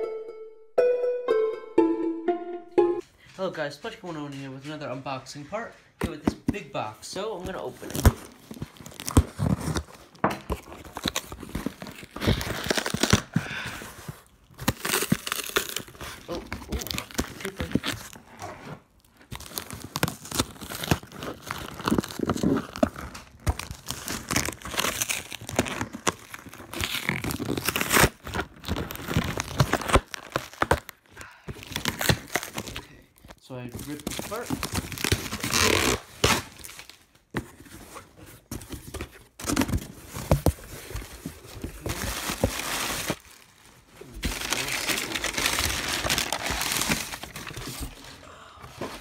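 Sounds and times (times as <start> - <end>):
plastic wrap crinkling: 5.4 - 48.2
cardboard box tearing: 7.5 - 32.8, 33.8 - 43.4, 44.1 - 49.0.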